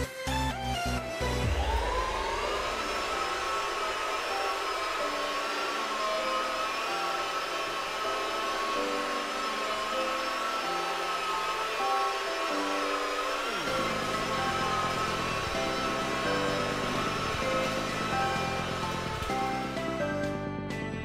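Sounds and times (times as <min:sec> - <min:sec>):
electric polisher motor whine: 0:01.3 - 0:20.5.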